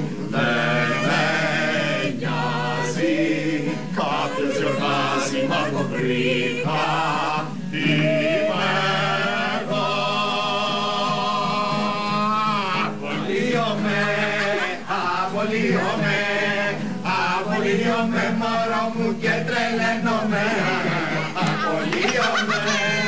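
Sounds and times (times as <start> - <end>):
acoustic guitar: 0.0 - 23.0
men singing together: 0.0 - 23.0.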